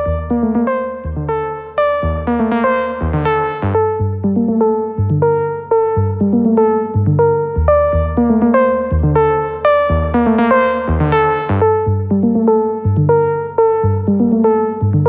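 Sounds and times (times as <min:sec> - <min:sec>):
synth bass line: 0:00.0 - 0:15.0
synth lead plucked notes: 0:00.0 - 0:15.0.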